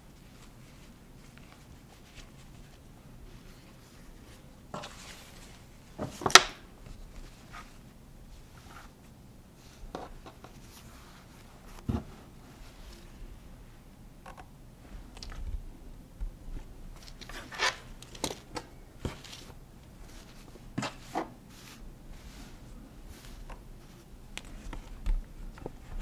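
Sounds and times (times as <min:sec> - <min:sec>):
fabric rustling and handling: 0:00.0 - 0:13.4, 0:16.5 - 0:26.0.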